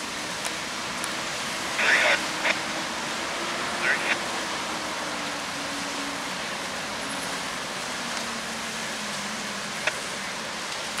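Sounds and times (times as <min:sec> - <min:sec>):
cars driving past: 0:00.6 - 0:11.0.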